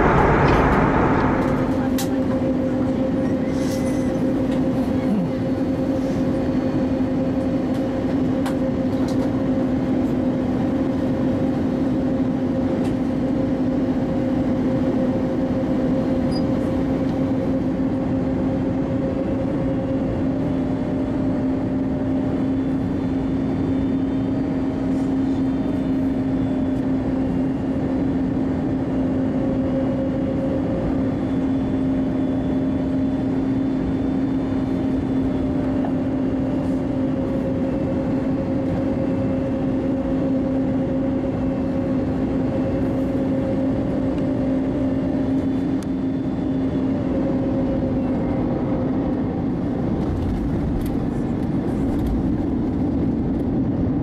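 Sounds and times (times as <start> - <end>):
aircraft cabin engine rush: 0.0 - 54.0
constant low hum: 0.0 - 54.0.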